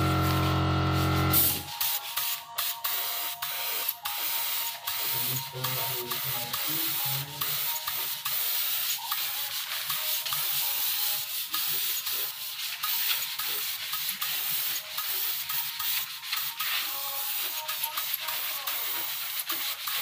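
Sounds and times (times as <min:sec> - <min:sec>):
spray gun hissing: 0:00.0 - 0:20.0.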